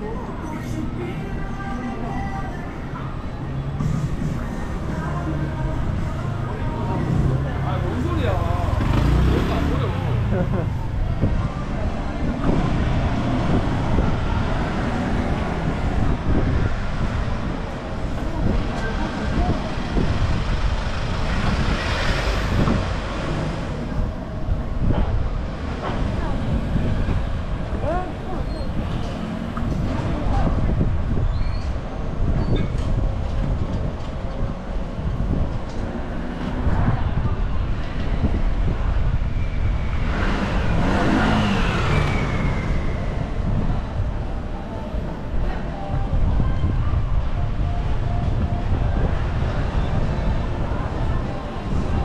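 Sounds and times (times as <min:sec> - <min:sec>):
traffic rumble: 0:00.0 - 0:52.0.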